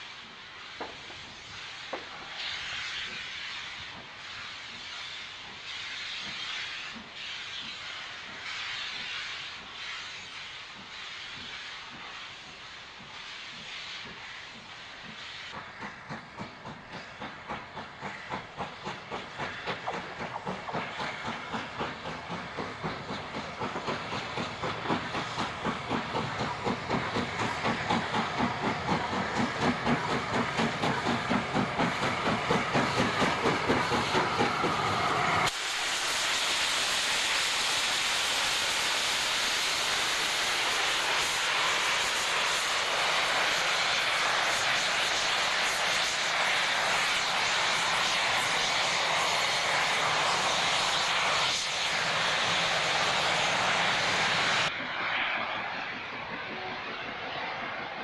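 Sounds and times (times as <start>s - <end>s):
hissing steam: 0.0s - 58.0s
steam locomotive exhaust beats: 0.0s - 58.0s
train rushing past: 0.0s - 58.0s.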